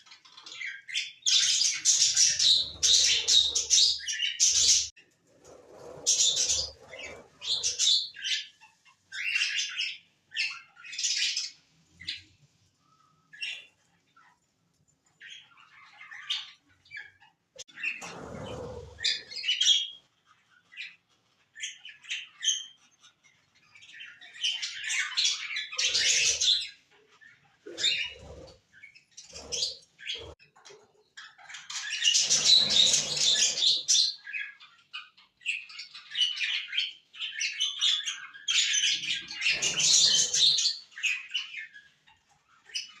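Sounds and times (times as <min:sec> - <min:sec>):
small birds chirping and squawking: 0:00.0 - 0:43.0.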